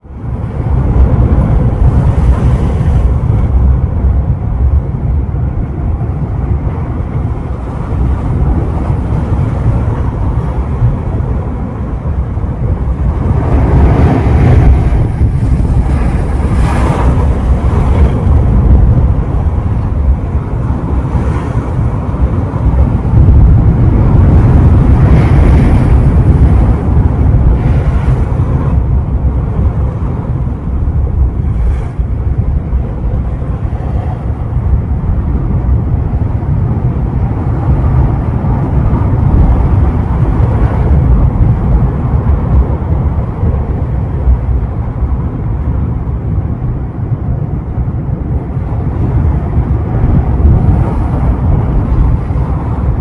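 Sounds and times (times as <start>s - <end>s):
wind buffeting microphone: 0.0s - 53.0s
sea surf breaking: 0.2s - 53.0s.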